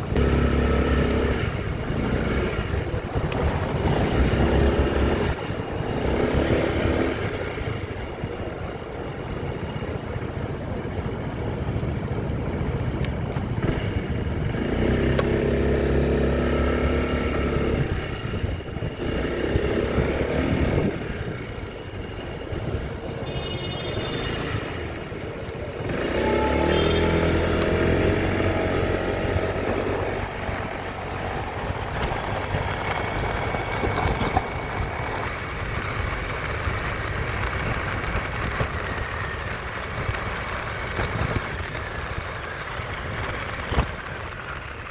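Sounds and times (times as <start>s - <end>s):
motorcycle engine accelerating: 0.0s - 23.2s, 24.1s - 44.9s
road and wind noise: 0.0s - 44.9s.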